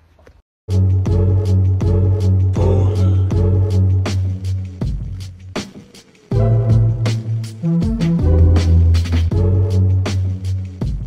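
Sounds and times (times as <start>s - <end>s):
music with heavy bass and drums: 0.7s - 11.0s.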